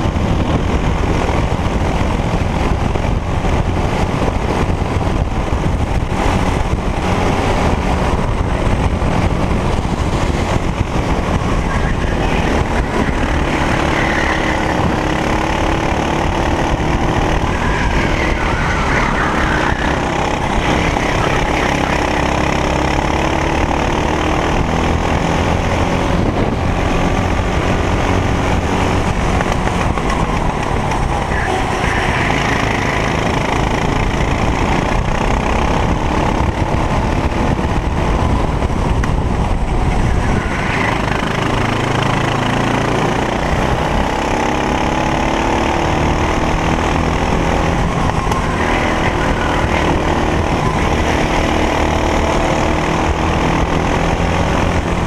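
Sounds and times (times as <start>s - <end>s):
kart engine running hard: 0.0s - 55.0s
wind rush: 0.0s - 55.0s.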